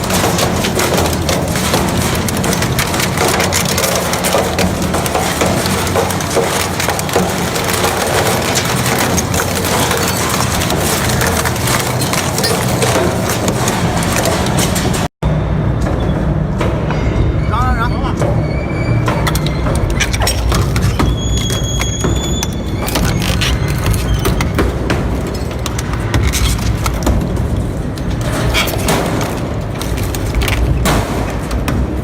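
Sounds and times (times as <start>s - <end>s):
shredder crackling and snapping: 0.0s - 15.1s, 19.3s - 32.0s
machine drive hum: 0.0s - 32.0s.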